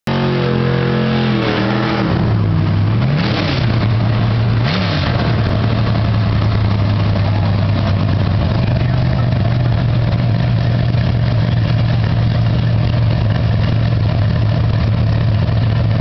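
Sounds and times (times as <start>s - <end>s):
drag car engine idling and revving: 0.0s - 16.0s.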